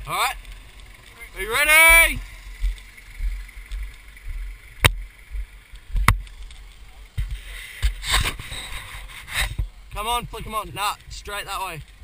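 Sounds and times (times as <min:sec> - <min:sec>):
engine idling rumble: 0:00.0 - 0:12.0
rustling hiss: 0:00.0 - 0:12.0.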